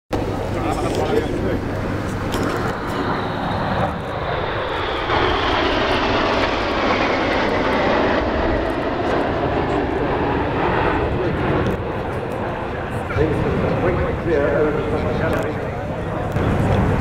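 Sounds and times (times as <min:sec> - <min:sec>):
jets flying past: 0:00.2 - 0:17.0.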